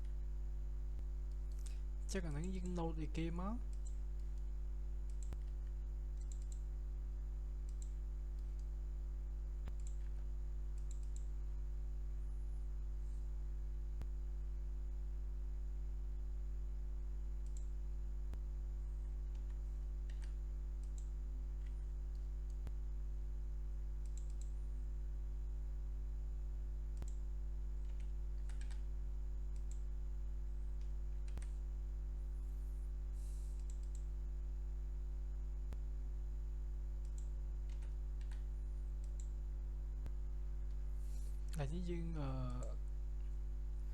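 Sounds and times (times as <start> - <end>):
low electrical hum: 0.0 - 43.9.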